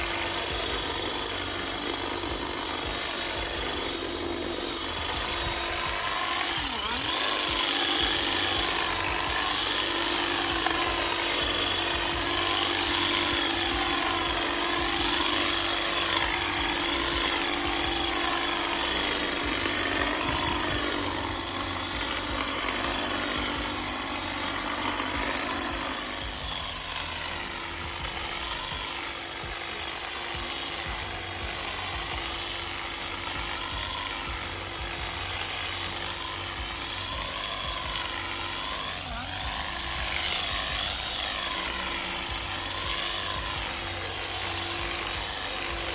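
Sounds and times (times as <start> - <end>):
power hedge trimmer running: 0.0 - 45.9.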